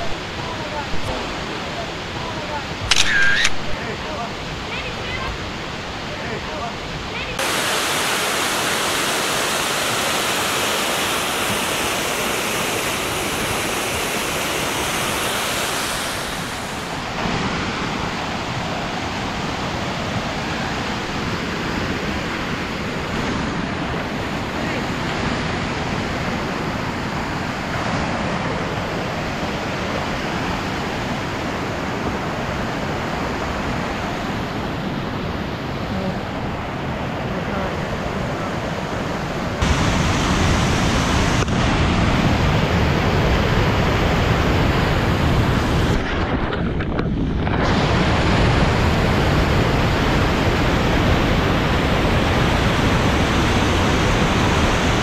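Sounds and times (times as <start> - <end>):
whitewater rushing through gorge: 0.0 - 2.9, 3.8 - 46.1, 47.6 - 55.0.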